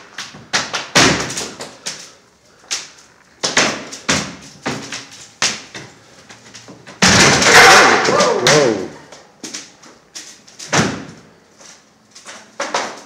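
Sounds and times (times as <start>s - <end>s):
floor tiles cracking and popping: 0.0s - 10.8s, 12.1s - 13.0s.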